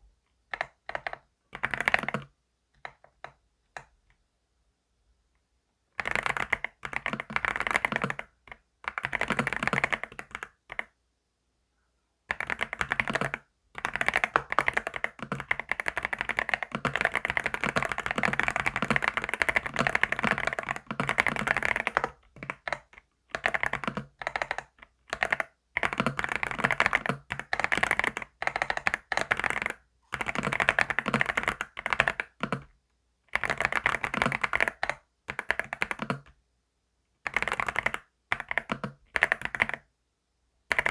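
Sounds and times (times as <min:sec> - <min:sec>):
fast keyboard typing: 0:00.5 - 0:03.9, 0:06.0 - 0:10.9, 0:12.3 - 0:32.7, 0:33.3 - 0:36.3, 0:37.2 - 0:39.9, 0:40.7 - 0:40.9.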